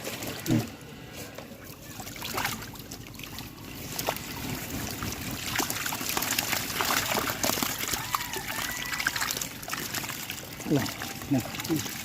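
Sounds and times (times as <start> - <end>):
water trickling around a boat: 0.0 - 12.0.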